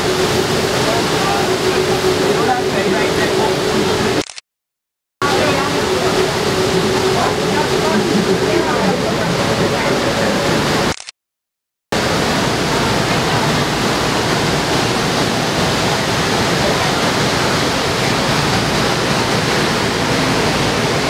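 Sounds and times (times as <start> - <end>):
waterfall roaring: 0.0 - 4.3, 5.2 - 11.0, 12.0 - 21.0.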